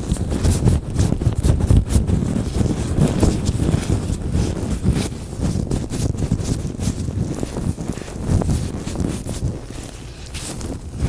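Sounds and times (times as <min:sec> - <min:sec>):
latex gloves rubbing and stretching: 0:00.0 - 0:11.0.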